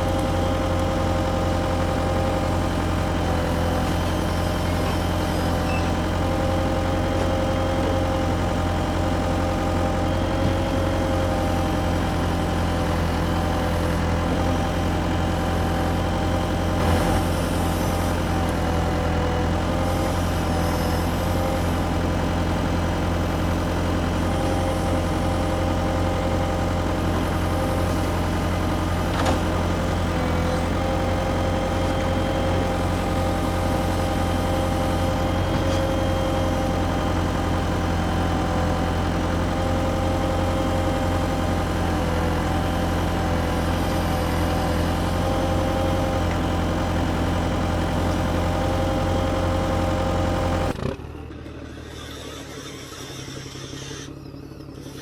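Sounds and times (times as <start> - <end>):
model excavator drone and whine: 0.0 - 55.0.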